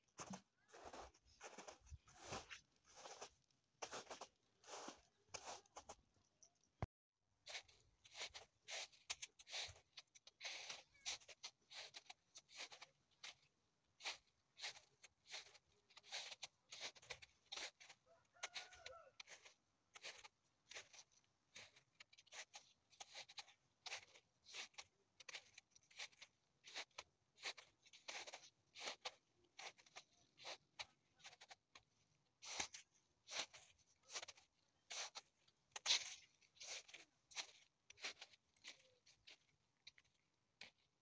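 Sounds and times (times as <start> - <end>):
footsteps crunching on snow: 0.1 - 6.0, 7.4 - 41.0.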